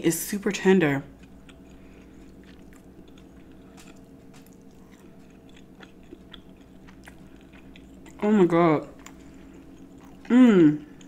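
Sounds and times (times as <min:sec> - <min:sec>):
steady low hum: 0:00.0 - 0:11.0
chewing with wet mouth clicks: 0:01.1 - 0:11.0.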